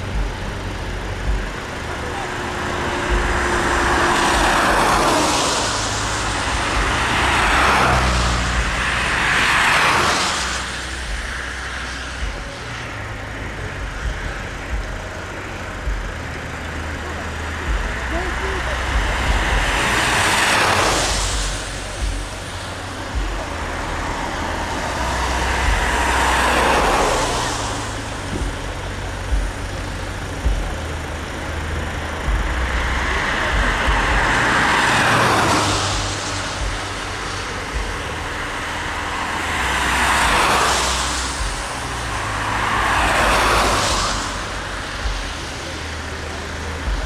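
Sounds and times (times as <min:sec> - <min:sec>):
low wind rumble: 0:00.0 - 0:47.0
vehicles passing: 0:00.0 - 0:47.0.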